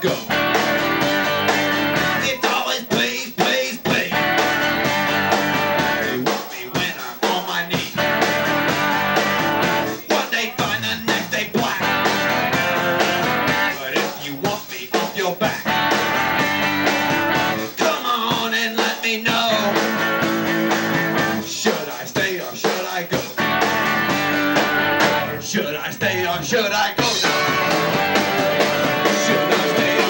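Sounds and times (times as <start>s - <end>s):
drum kit: 0.0s - 30.0s
electric guitars: 0.0s - 30.0s.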